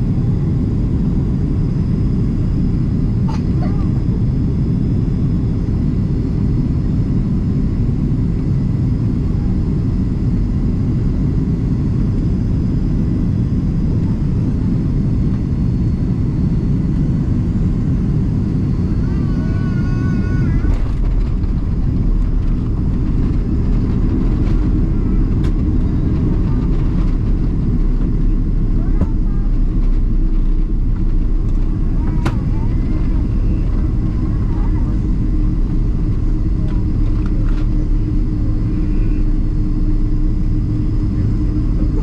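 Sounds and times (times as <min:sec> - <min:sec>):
airflow and engine rumble: 0:00.0 - 0:42.0.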